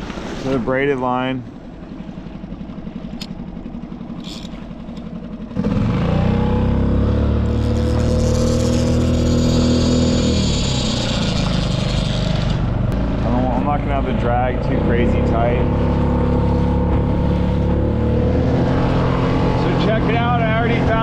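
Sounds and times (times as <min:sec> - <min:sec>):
outboard motor revving: 0:00.0 - 0:21.0.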